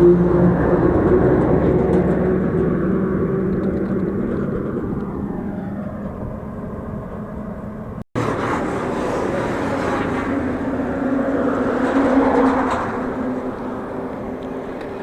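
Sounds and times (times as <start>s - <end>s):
low droning hum: 0.0s - 15.0s
road noise: 0.0s - 15.0s
wind rush: 0.0s - 15.0s.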